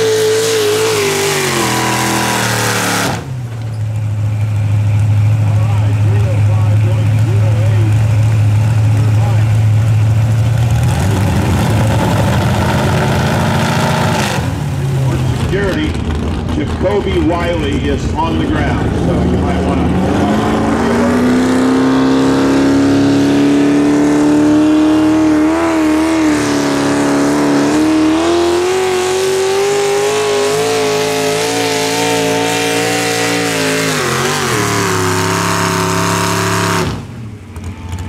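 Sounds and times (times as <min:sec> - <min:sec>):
tractor engine at high revs: 0:00.0 - 0:38.0.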